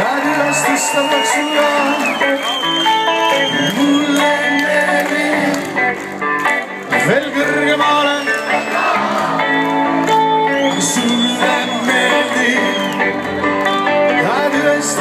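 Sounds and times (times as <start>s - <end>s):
person singing: 0.0s - 2.6s, 3.2s - 6.1s, 6.7s - 9.6s, 10.5s - 15.0s
electric guitar: 0.0s - 15.0s
live band playing amplified music: 0.0s - 15.0s.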